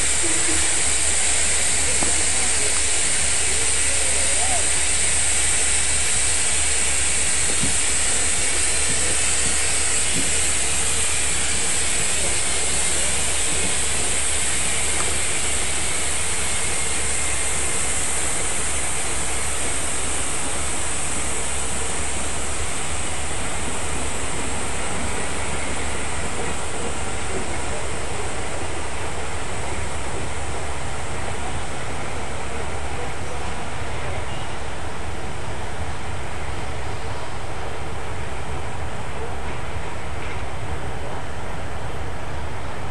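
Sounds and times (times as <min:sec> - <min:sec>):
steam hissing: 0:00.0 - 0:40.8.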